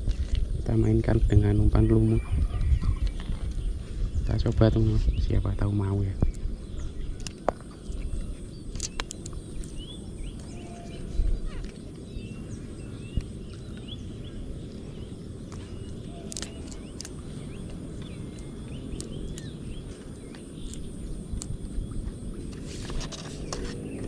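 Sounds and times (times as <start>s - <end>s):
low rumble of wind or water: 0.0s - 24.0s
small birds chirping: 0.0s - 24.0s
steady high-pitched whine: 0.0s - 24.0s.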